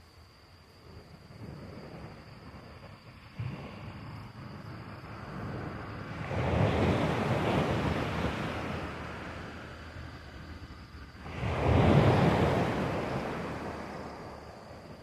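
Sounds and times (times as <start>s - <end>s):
sea waves washing in: 2.6s - 15.0s.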